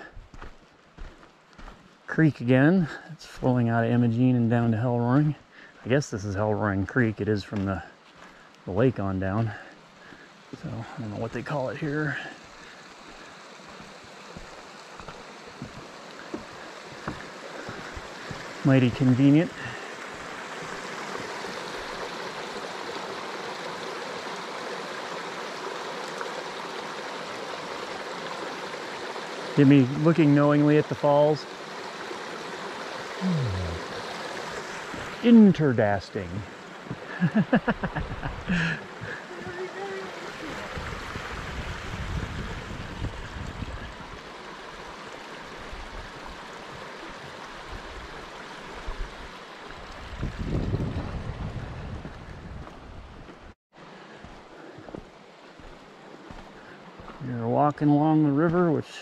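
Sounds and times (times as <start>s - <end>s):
creek water running over rocks: 0.0s - 59.0s.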